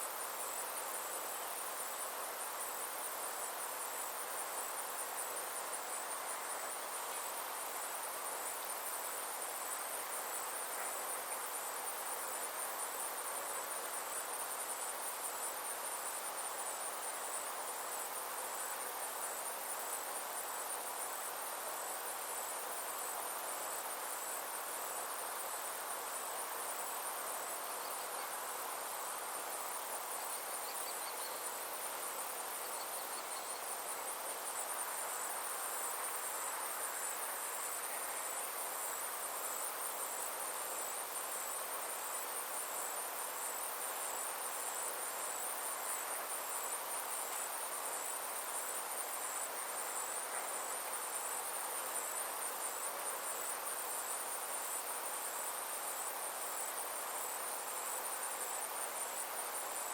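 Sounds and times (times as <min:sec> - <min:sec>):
insects chirring: 0:00.0 - 0:59.9
outdoor ambience hiss: 0:00.0 - 0:59.9.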